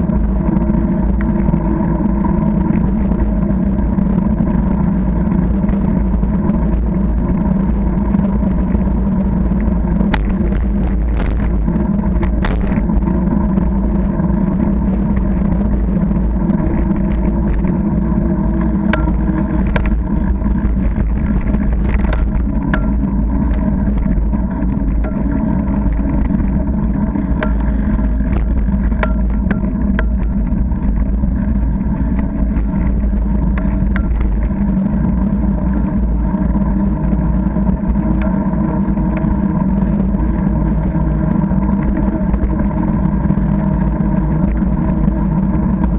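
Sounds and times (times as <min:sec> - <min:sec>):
bicycle tyre and frame rumble: 0:00.0 - 0:45.9
bike rattling over bumps: 0:00.0 - 0:45.9
wind on microphone: 0:00.0 - 0:45.9.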